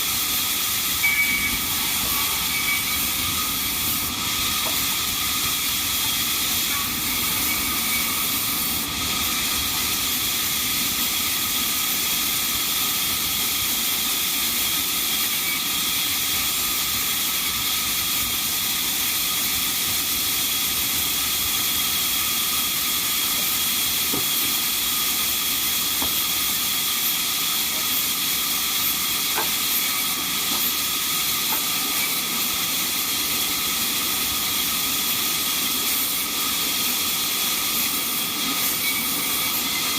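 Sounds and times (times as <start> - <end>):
band sawmill hissing and whining: 0.0 - 39.9.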